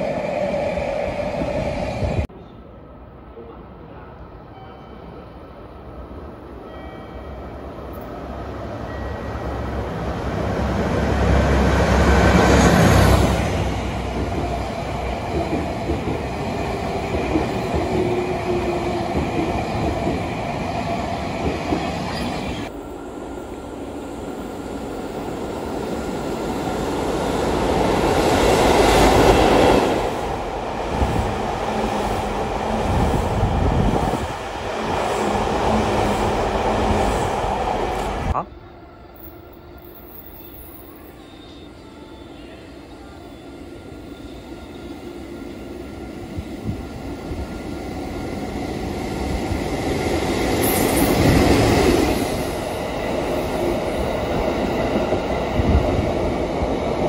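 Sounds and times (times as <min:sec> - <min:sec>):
train passing through station: 0:00.0 - 0:57.0.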